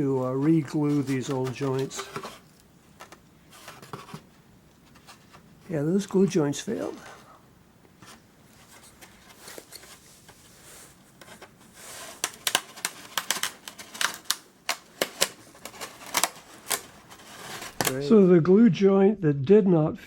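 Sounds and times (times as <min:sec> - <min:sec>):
handling rustle: 0:00.0 - 0:07.3, 0:08.0 - 0:18.0.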